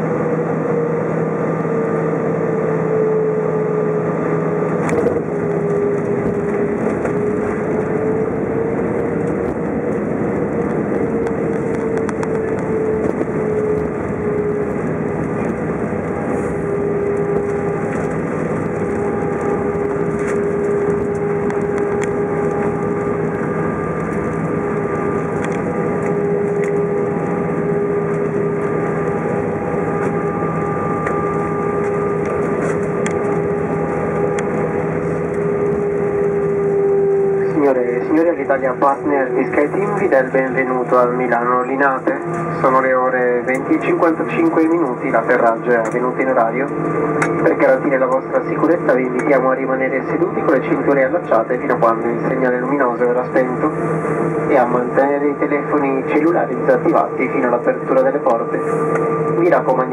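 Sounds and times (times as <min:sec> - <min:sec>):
jet engines roaring with whine: 0:00.0 - 0:59.9.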